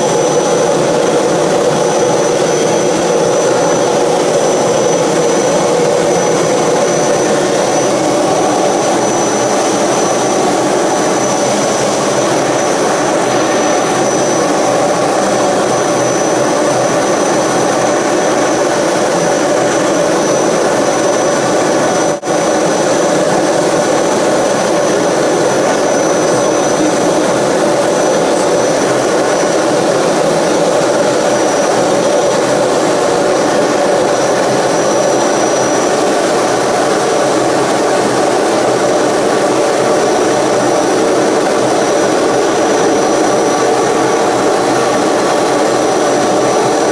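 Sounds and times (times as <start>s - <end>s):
jet engine roar with whine: 0.0s - 46.9s.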